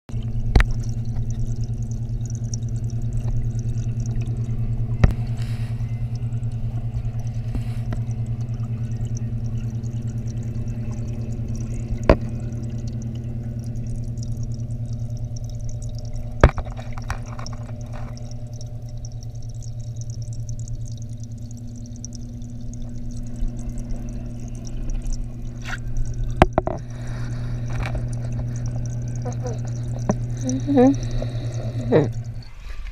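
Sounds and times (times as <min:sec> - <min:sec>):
low pump hum: 0:00.1 - 0:32.9
water flowing and trickling: 0:00.1 - 0:32.9.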